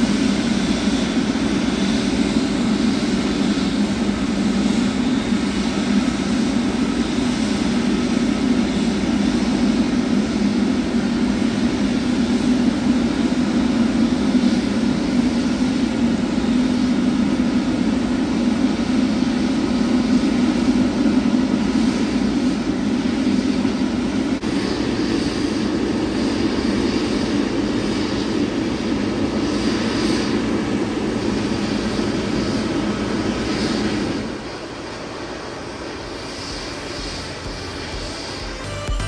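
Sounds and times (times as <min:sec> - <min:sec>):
jet engines rumbling: 0:00.0 - 0:39.0.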